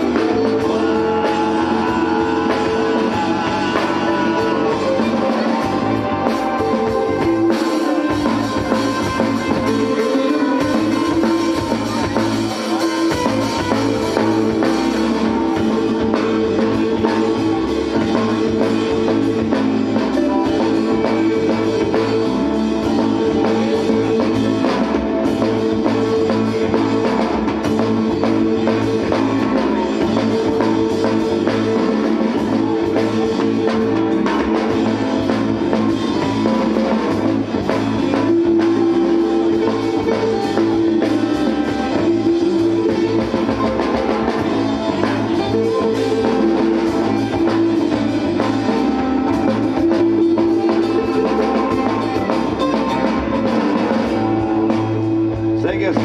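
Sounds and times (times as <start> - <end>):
bass line: 0.0 - 56.0
drum kit beat: 0.0 - 56.0
guitars: 0.0 - 56.0.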